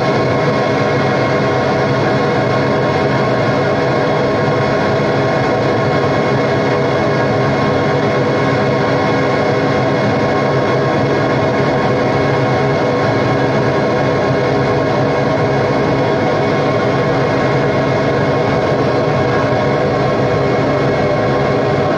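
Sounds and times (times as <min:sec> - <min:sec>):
noise music drone: 0:00.0 - 0:21.9.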